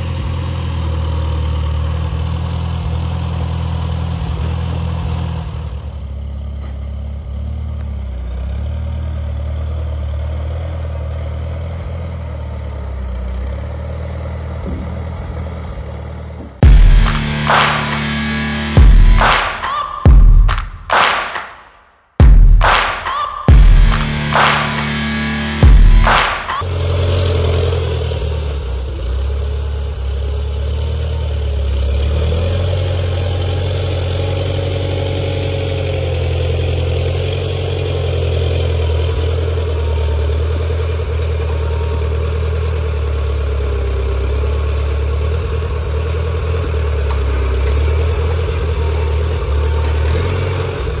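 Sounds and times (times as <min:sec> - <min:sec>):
forklift engine droning: 0:00.0 - 0:20.9, 0:22.2 - 0:51.0.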